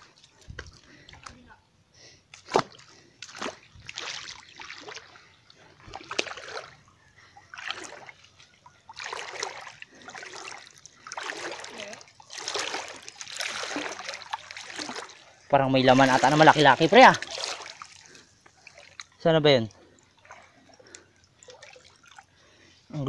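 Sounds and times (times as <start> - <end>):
wading splashes in shallow water: 2.3 - 22.9.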